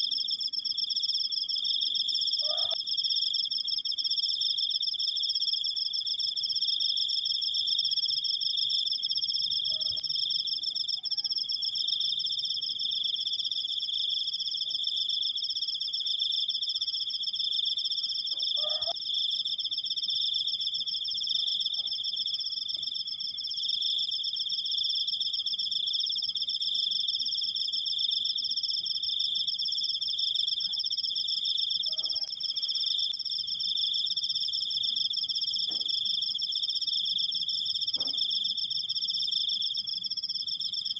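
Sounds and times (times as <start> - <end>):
cricket trilling: 0.0 - 40.9.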